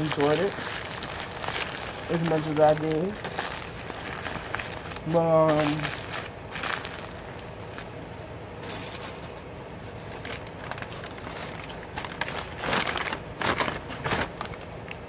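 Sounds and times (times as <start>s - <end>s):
paper wrappers crumpling: 0.0s - 8.0s, 10.0s - 15.0s.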